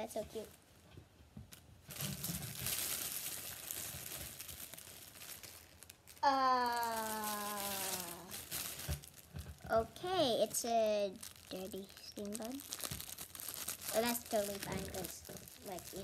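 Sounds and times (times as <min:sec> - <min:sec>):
plastic packaging crinkling: 0:00.1 - 0:00.8, 0:01.5 - 0:16.0.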